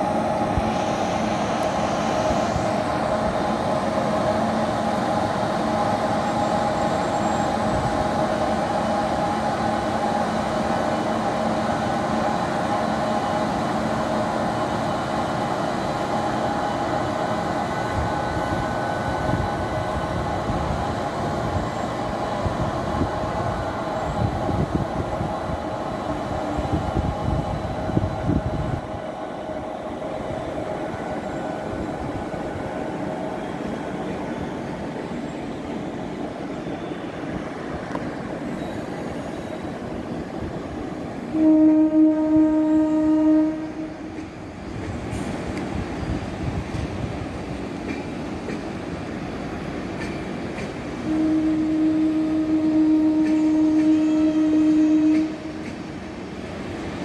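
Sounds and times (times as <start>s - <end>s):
wheel and rail rumble: 0.0s - 57.0s.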